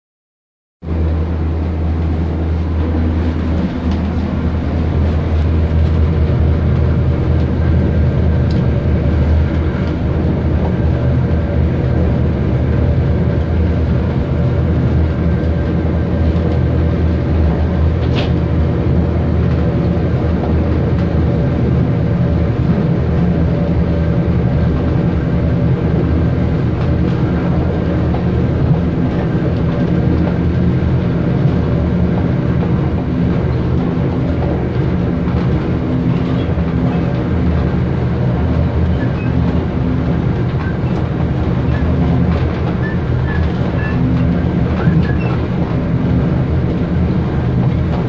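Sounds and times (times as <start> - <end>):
train engine drone: 0.8 - 48.0
wheels rumbling on track: 0.8 - 48.0.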